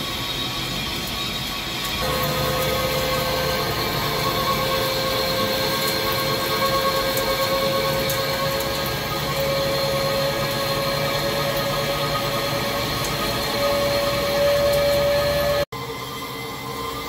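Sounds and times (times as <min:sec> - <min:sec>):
lathe cutting metal: 0:00.0 - 0:17.0
ringing whine: 0:00.0 - 0:17.0.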